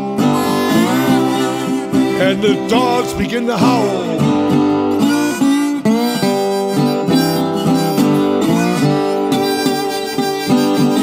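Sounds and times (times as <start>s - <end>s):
guitar accompaniment: 0.0s - 11.0s
harmonica sliding notes: 0.0s - 11.0s.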